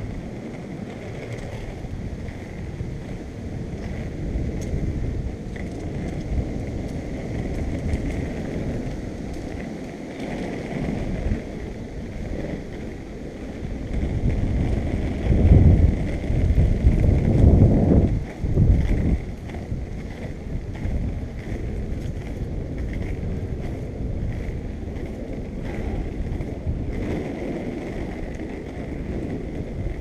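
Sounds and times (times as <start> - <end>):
skate wheels rolling on asphalt: 0.0 - 30.0
wind buffeting microphone: 0.0 - 30.0.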